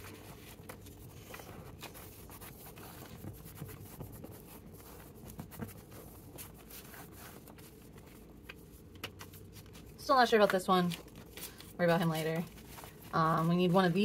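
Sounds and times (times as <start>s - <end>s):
paper rustling and tapping: 0.0s - 14.0s.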